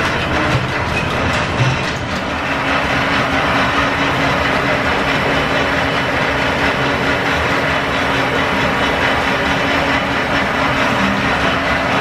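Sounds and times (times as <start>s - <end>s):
lathe turning metal: 0.0s - 12.0s
steady hum: 0.0s - 12.0s.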